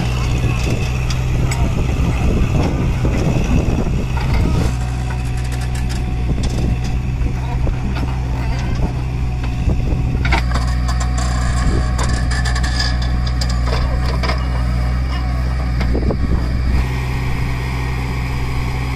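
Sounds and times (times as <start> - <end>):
diesel engines running: 0.0 - 18.9.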